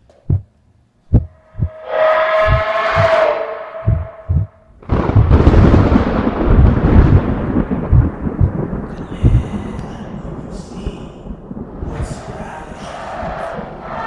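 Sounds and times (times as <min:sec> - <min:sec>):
deep rolling rumble: 0:00.0 - 0:14.0
heavy low booms: 0:00.0 - 0:14.0.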